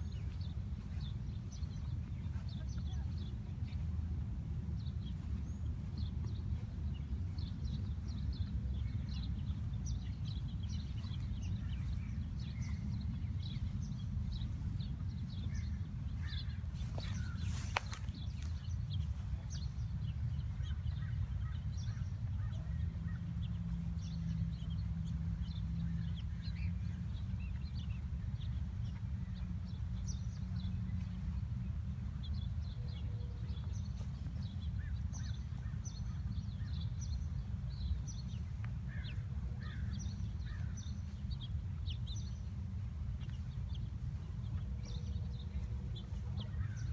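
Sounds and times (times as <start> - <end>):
steady low rumble: 0.0 - 46.9
birds chirping: 4.8 - 46.9.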